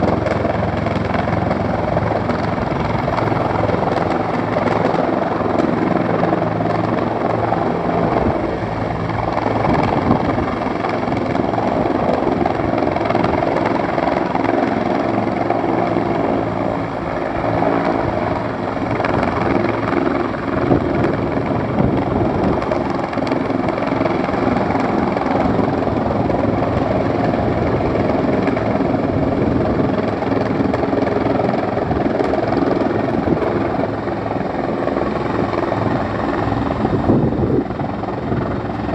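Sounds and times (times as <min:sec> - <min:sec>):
helicopter rotor chop: 0:00.0 - 0:38.9.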